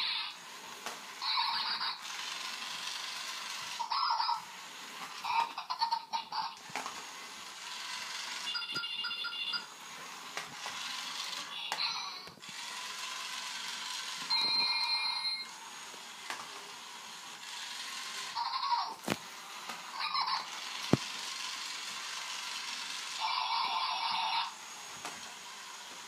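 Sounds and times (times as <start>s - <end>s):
toy motor whirring: 0.0s - 26.0s.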